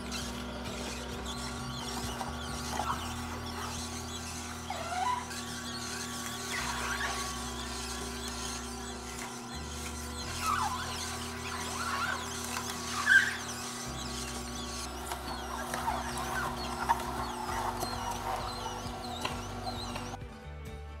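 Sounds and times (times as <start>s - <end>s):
fruit squeaking and creaking: 0.0s - 20.2s
juicer motor humming: 0.0s - 20.3s.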